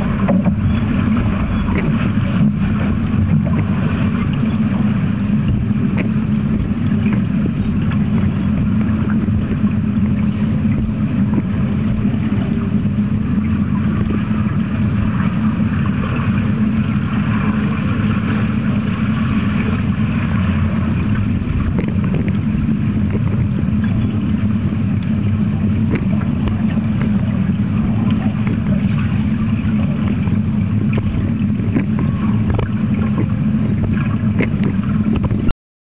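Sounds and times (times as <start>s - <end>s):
muffled underwater rumble: 0.0s - 35.5s
faint clicks and crackles: 0.1s - 35.5s.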